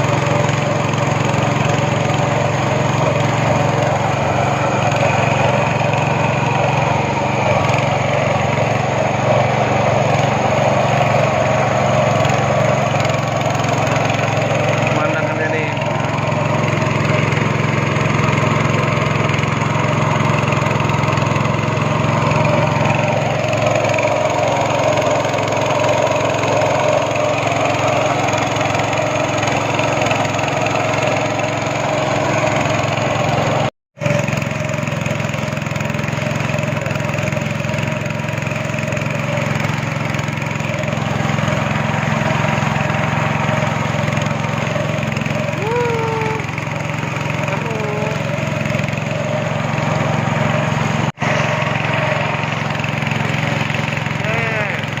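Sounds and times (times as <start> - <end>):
speedboat engine drone: 0.0 - 55.0.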